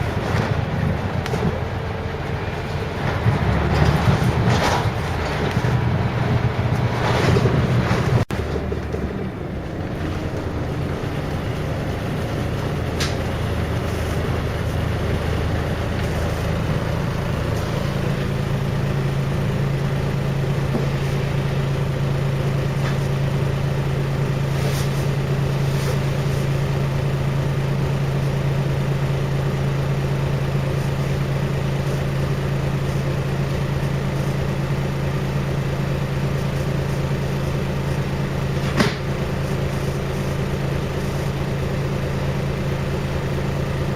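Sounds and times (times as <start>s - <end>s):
diesel bus engine running: 0.0s - 43.9s.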